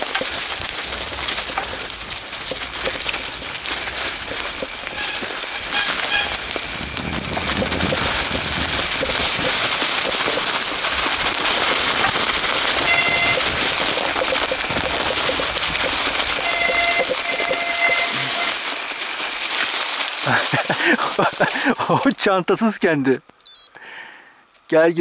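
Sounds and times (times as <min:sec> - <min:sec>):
bike tyres crunching over leaves: 0:00.0 - 0:22.4.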